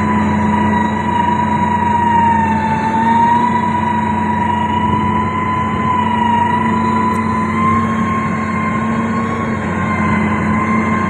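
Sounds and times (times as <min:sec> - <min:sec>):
diesel engine running under load: 0:00.0 - 0:11.0
high whine: 0:00.0 - 0:11.0.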